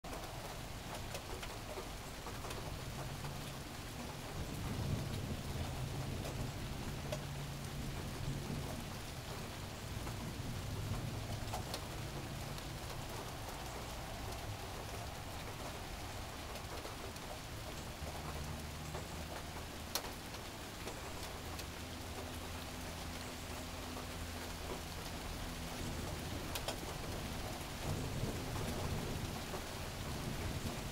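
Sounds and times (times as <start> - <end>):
steady rain: 0.0 - 30.9.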